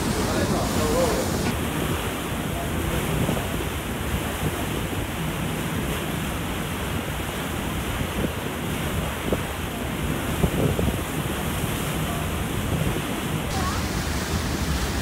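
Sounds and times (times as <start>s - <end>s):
water churning along a hull: 0.0s - 15.0s
wind buffeting microphone: 0.0s - 15.0s.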